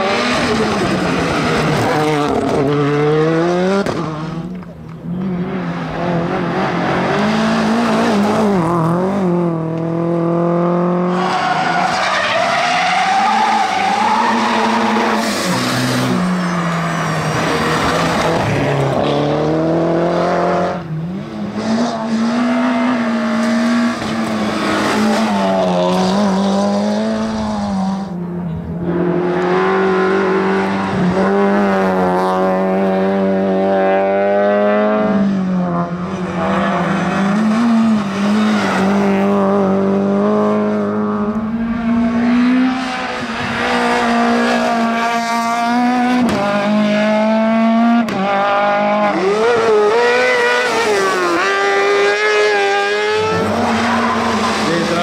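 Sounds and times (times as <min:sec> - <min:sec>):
race cars accelerating: 0:00.0 - 0:55.0.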